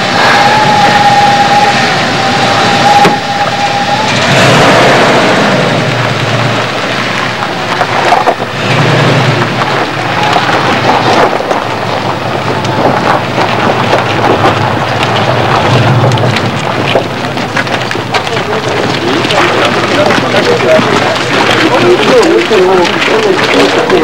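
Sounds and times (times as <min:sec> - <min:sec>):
pickup truck driving past: 0:00.0 - 0:21.6
wind noise on microphone: 0:00.0 - 0:22.1
people walking past: 0:00.0 - 0:24.0.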